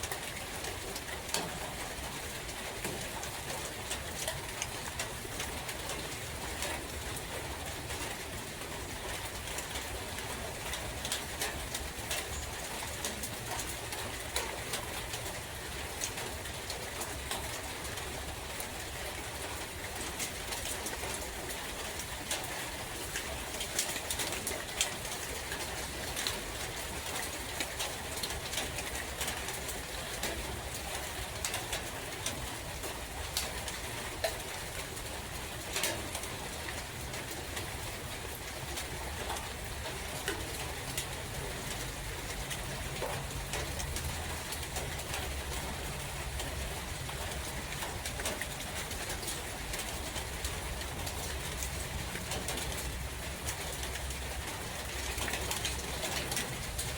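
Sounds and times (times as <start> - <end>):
rain dripping on leaves: 0.0 - 56.9.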